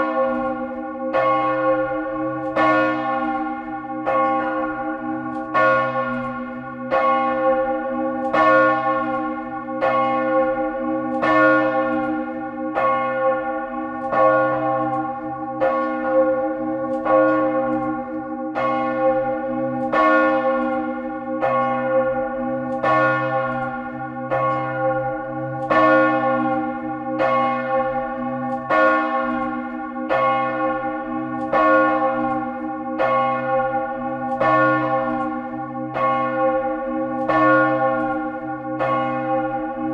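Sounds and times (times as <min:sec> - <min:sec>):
church bell pealing: 0:00.0 - 0:39.9.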